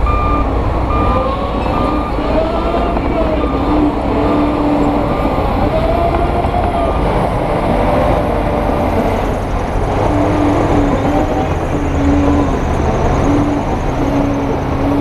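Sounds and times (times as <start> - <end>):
heavy diesel machinery droning: 0.0 - 15.0.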